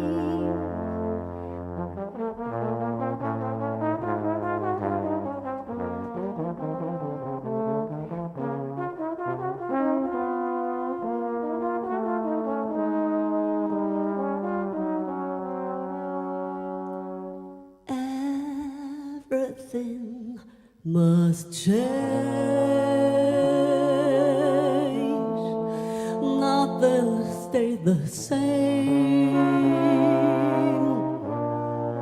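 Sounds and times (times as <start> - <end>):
trombone playing jazz ballad: 0.0 - 17.8, 21.6 - 32.0.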